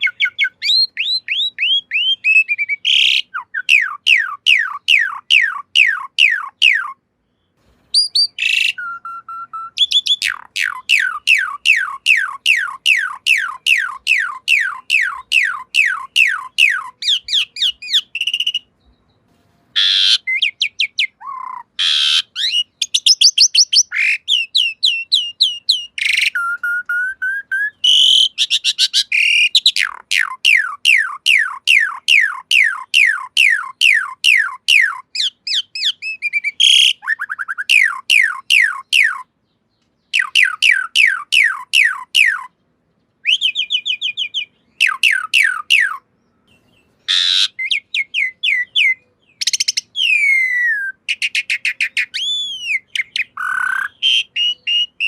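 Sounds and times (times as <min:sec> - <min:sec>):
starling singing whistled notes: 0:00.0 - 0:07.0, 0:08.0 - 0:19.1, 0:19.8 - 0:39.3, 0:40.0 - 0:42.5, 0:43.2 - 0:55.0.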